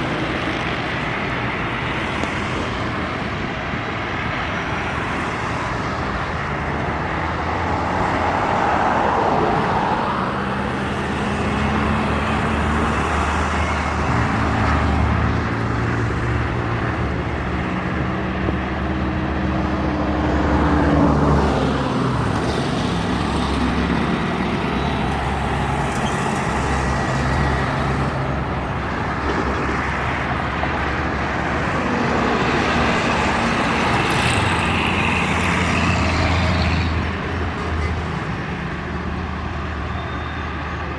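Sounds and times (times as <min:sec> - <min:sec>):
highway traffic passing: 0:00.0 - 0:40.9
truck engines droning: 0:00.0 - 0:40.9.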